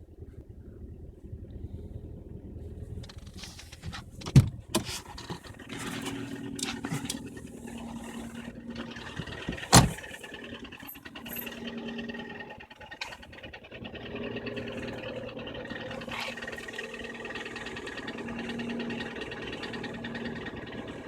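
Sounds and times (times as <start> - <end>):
car engine knocking: 0.0 - 21.0.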